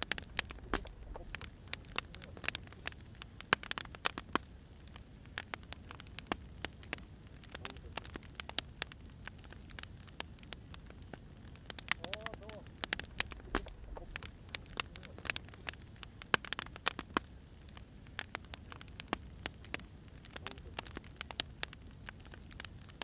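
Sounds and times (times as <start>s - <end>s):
firewood popping and snapping: 0.0s - 23.0s
low rumble of fire: 0.0s - 23.0s.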